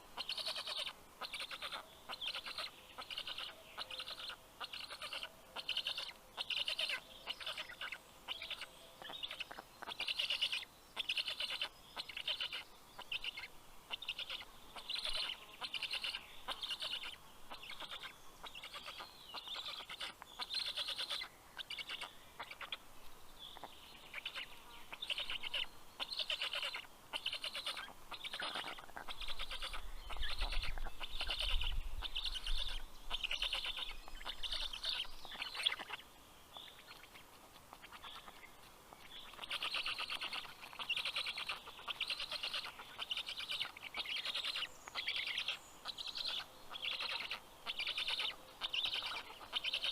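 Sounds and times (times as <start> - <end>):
stork chicks rasping calls: 0.1 - 22.9, 23.5 - 49.9.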